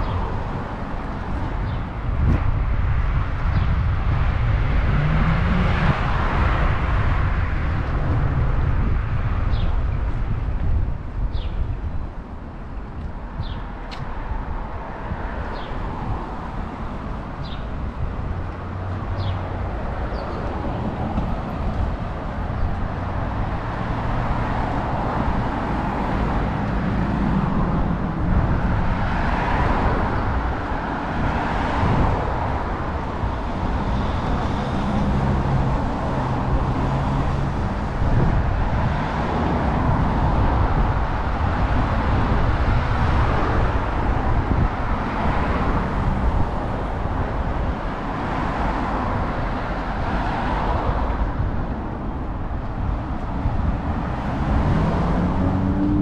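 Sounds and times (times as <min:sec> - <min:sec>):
vehicles driving past: 0:00.0 - 0:56.0.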